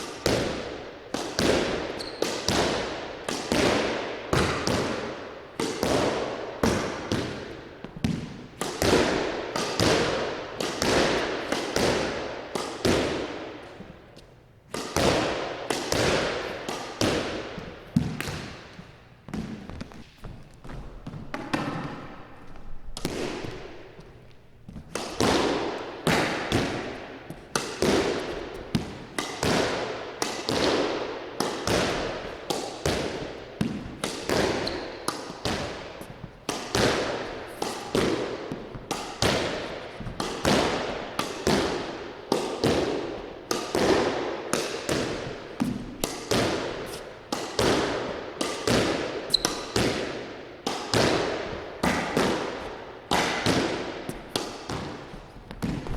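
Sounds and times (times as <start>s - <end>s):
squash ball hits: 0.0s - 55.9s.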